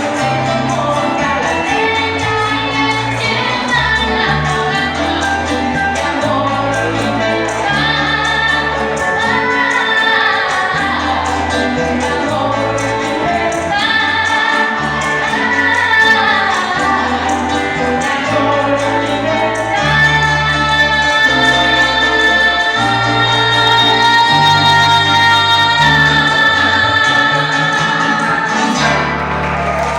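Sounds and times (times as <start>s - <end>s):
woman singing: 0.0s - 29.1s
instrumental backing with bass line: 0.0s - 29.9s.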